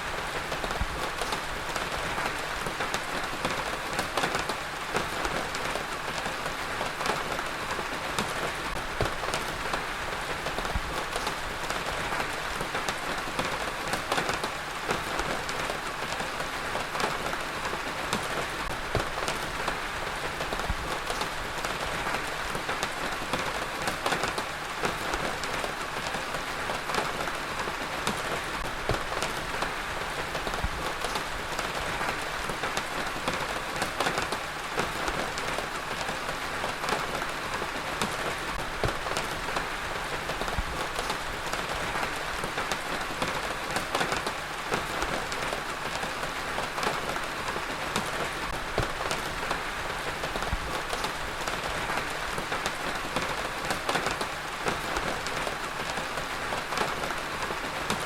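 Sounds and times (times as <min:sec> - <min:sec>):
heavy rain on hard surface: 0:00.0 - 0:58.0.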